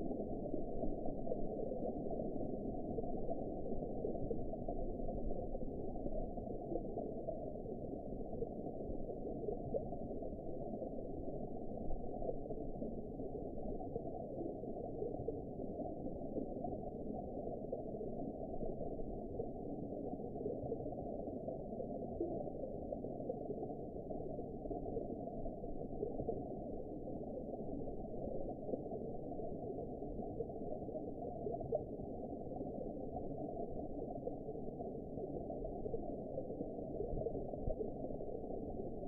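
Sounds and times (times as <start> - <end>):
muffled underwater rush and gurgle: 0.0 - 39.0.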